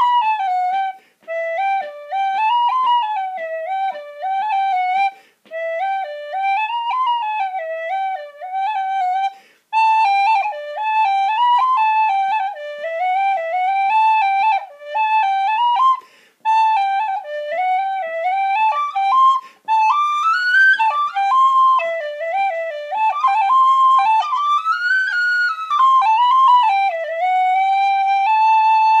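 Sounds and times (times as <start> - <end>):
tin whistle playing a jig: 0.0 - 29.0.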